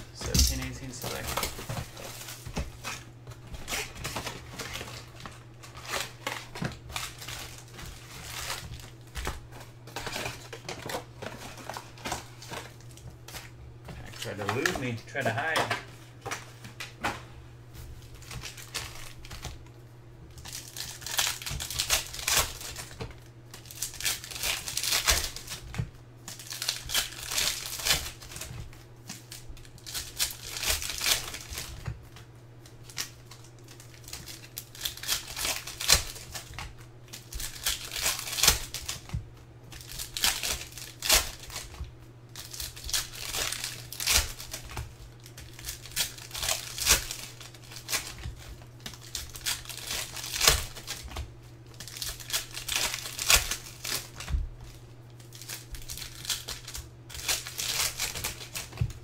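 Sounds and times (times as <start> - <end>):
foil wrappers tearing and crinkling: 0.0 - 17.0, 17.9 - 59.0.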